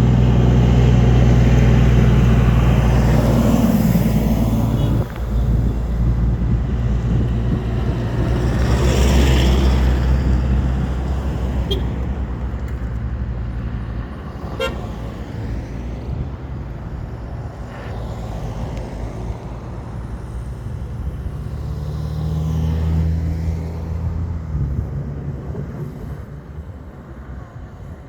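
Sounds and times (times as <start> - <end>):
vehicle engine and tyre rumble: 0.0 - 28.0.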